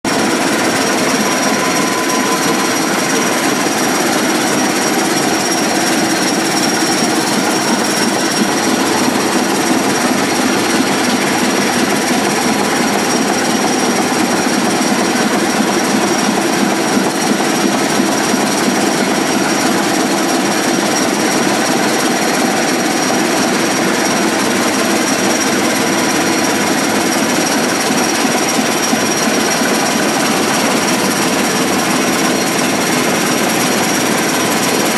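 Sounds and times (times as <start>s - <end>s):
ship engine clattering: 0.1s - 34.9s.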